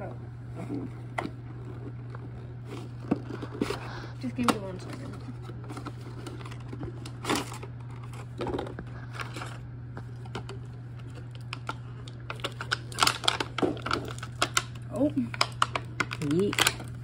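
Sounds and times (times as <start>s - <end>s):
steady low hum: 0.0s - 17.0s
packaging rustling: 1.2s - 17.0s.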